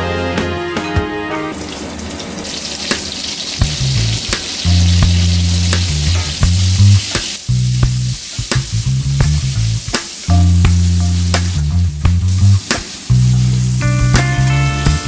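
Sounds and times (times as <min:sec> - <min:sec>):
onion rings sizzling in oil: 0:01.5 - 0:15.0.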